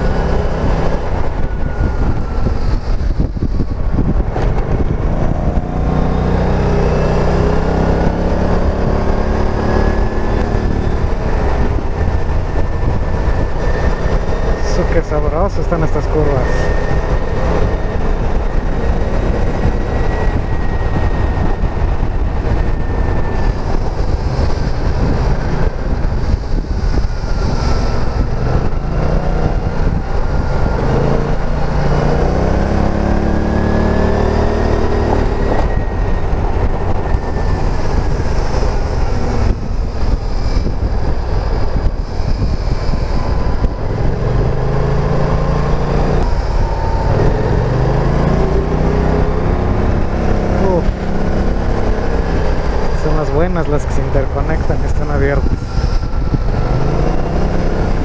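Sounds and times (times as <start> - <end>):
scooter engine accelerating and slowing: 0.0 - 58.0
wind rumble on microphone: 0.0 - 58.0.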